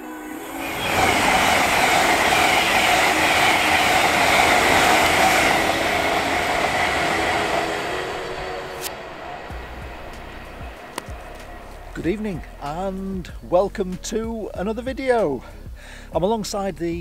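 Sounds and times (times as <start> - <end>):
high-speed train passing: 0.0 - 14.6.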